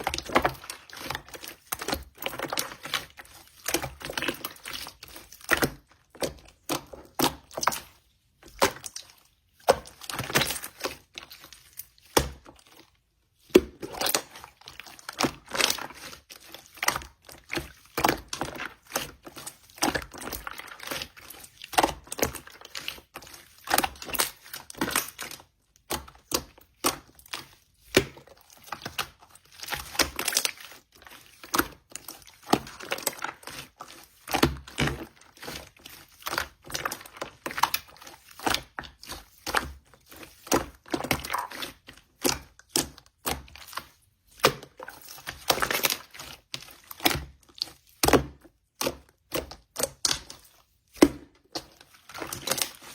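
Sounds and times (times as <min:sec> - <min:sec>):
slime squished by hand: 0:00.0 - 0:52.9.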